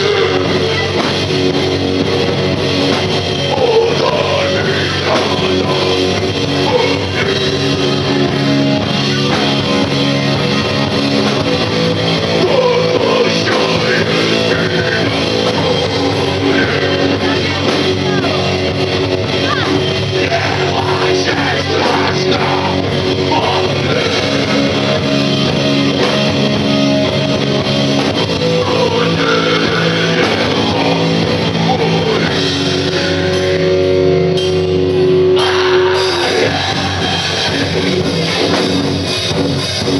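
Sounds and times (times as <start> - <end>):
person singing: 0.0 - 1.7, 2.6 - 10.1, 11.4 - 26.3, 28.0 - 33.8, 35.2 - 38.6
rock band playing live: 0.0 - 39.9.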